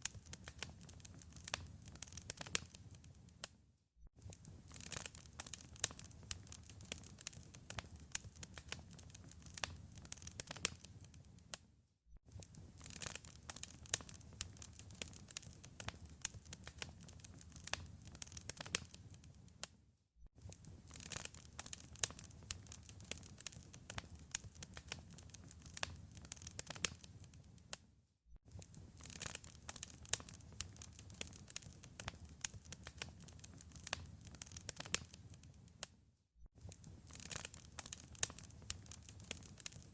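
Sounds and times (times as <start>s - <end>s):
wood fire crackling: 0.0s - 3.5s, 4.2s - 11.6s, 12.3s - 19.7s, 20.4s - 27.8s, 28.5s - 35.9s, 36.6s - 39.9s.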